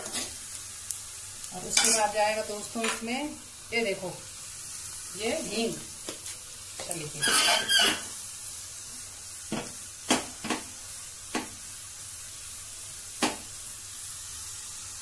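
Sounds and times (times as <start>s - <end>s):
spices sizzling in ghee: 0.0s - 15.0s.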